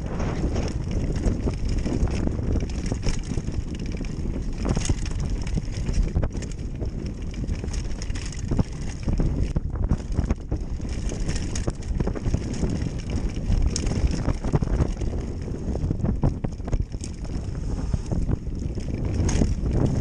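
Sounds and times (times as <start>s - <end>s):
wind buffeting microphone: 0.0s - 20.0s
small knocks and rattles: 0.4s - 17.5s, 18.1s - 20.0s.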